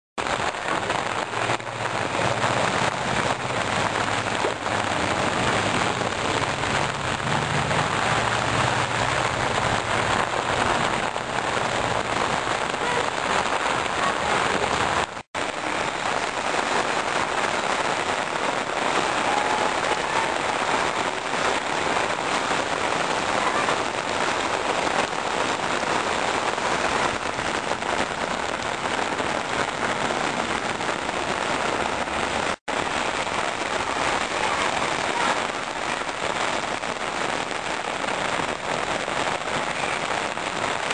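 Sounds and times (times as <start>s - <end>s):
heavy rain pouring on street: 0.2s - 40.9s.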